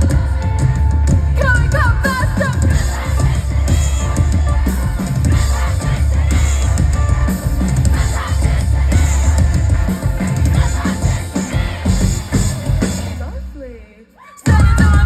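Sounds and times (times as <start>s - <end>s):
live pop-rock band: 0.0s - 15.0s
sung vocals: 0.0s - 15.0s.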